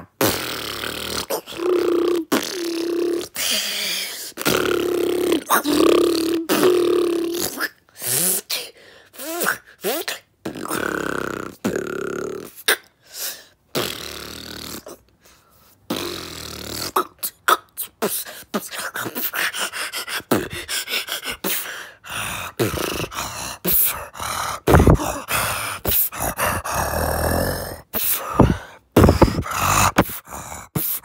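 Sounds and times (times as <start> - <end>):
beatboxing: 0.0 - 12.9, 13.7 - 15.1, 15.8 - 31.0.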